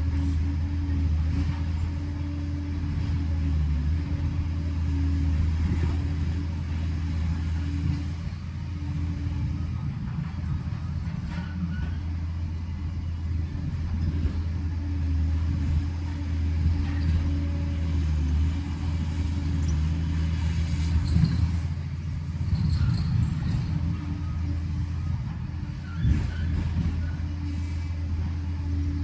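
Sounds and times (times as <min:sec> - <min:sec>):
bulldozer diesel engine humming: 0:00.0 - 0:29.0.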